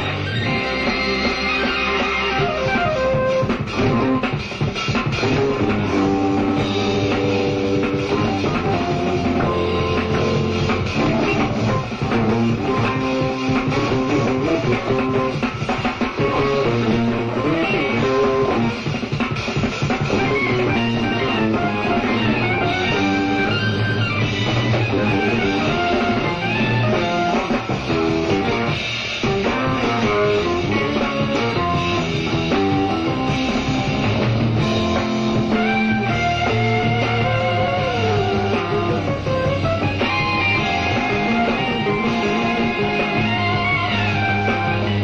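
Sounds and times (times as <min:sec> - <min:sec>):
drums: 0:00.0 - 0:45.0
electric guitar: 0:00.0 - 0:45.0.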